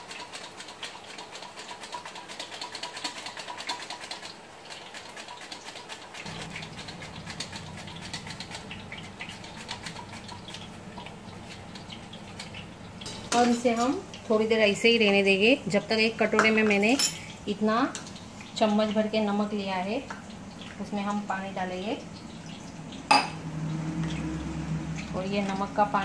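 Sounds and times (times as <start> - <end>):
banana slices sizzling in oil: 2.6 - 26.0.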